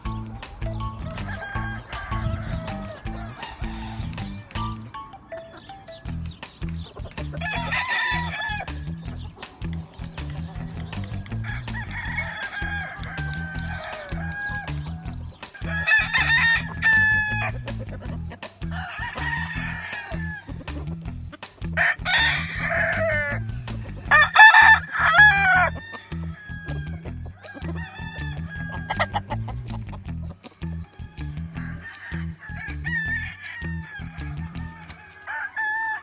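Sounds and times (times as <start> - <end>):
music with low beat: 0.0 - 34.9
roosters crowing: 0.0 - 36.0.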